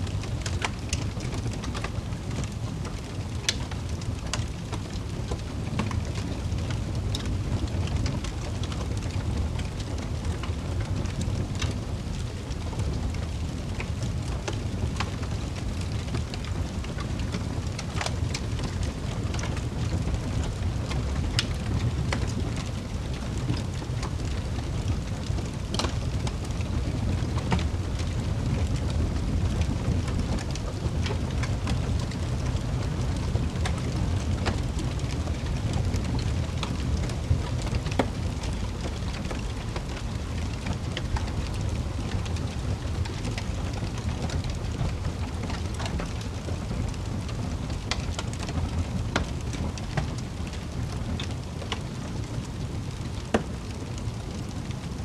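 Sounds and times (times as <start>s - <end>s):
fire popping and snapping: 0.0s - 55.0s
wood fire crackling: 0.0s - 55.0s.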